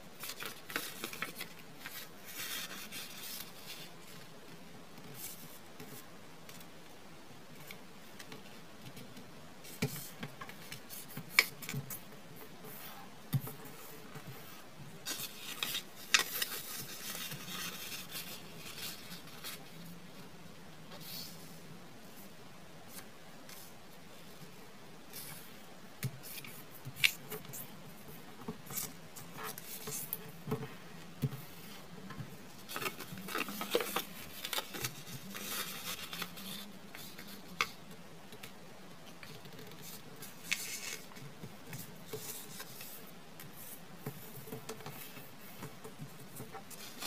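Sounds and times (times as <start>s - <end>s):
paper crinkling and rustling: 0.1s - 6.7s, 7.6s - 19.9s, 26.1s - 47.0s.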